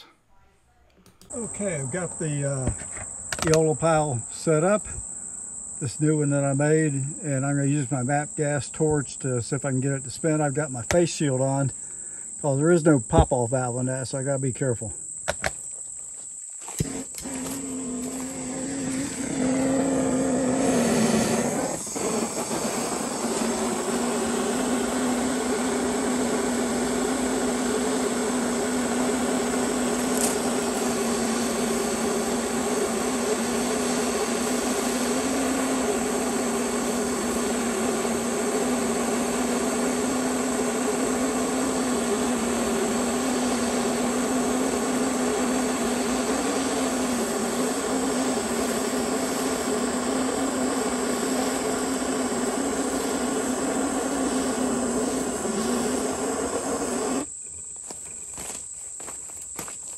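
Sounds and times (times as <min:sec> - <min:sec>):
gas torch flame hissing: 0:01.2 - 0:13.2, 0:16.6 - 0:57.3.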